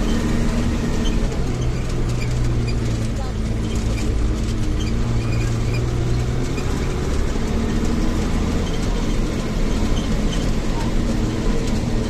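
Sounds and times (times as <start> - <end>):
bus engine humming: 0.0 - 12.0
faint clicks and rattles: 0.4 - 12.0.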